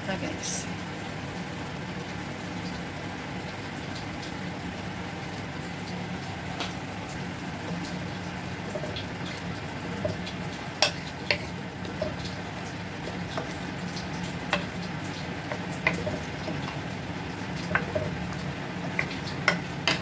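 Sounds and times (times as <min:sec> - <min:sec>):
chicken sizzling in a pot: 0:00.0 - 0:20.0.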